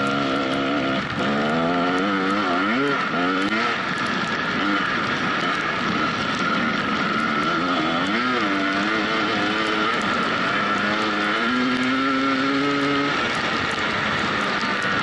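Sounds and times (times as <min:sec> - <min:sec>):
dirt bike engine revving: 0:00.0 - 0:15.0
steady rushing noise: 0:00.0 - 0:15.0.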